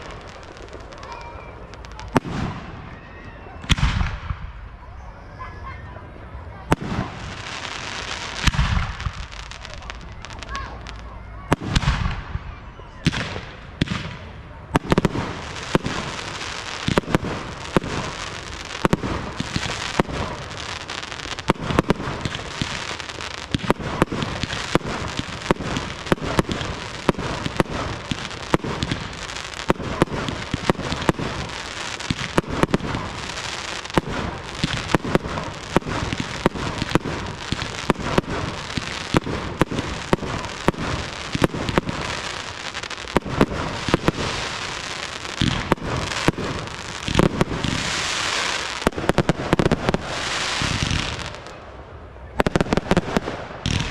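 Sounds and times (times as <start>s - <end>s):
fireworks crackling hiss: 0.0s - 5.4s, 6.2s - 53.9s
fireworks bursting with sharp bangs: 0.0s - 53.9s.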